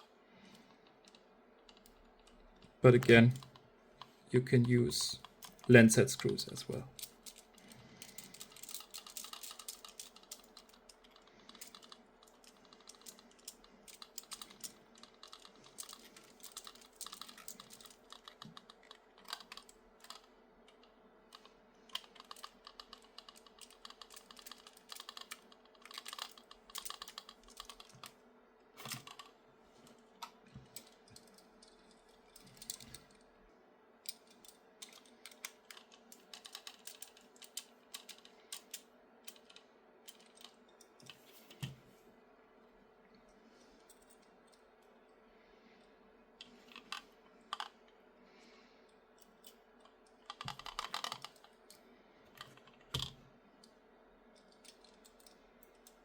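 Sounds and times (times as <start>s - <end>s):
faint steady hum: 0.0s - 56.0s
small plastic parts clicking: 0.4s - 4.1s, 4.9s - 28.2s, 28.8s - 33.3s, 34.0s - 41.8s, 46.4s - 48.0s, 49.2s - 56.0s.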